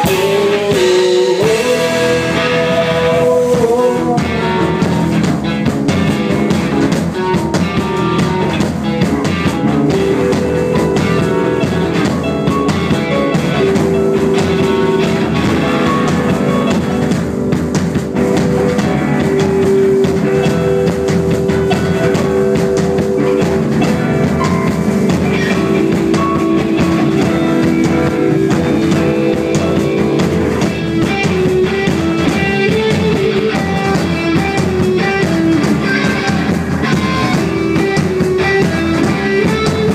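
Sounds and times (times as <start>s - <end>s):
instrumental rock music: 0.0s - 39.9s.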